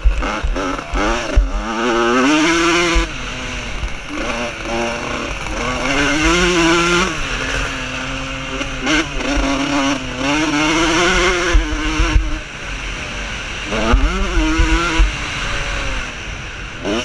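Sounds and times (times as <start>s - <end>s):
motocross motorcycles revving: 0.0s - 17.0s.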